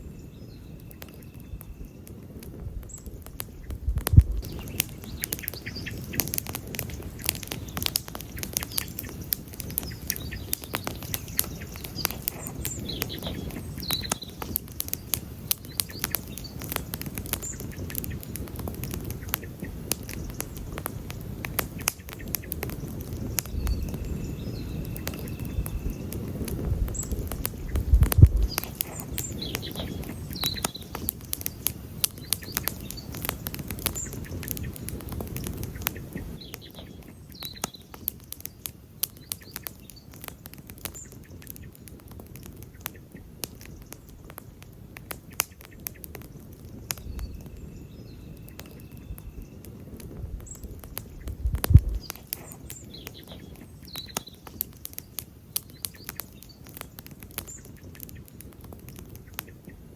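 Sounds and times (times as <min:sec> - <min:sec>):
birds chirping: 0:00.0 - 0:59.9
campfire crackling and popping: 0:00.0 - 0:59.9.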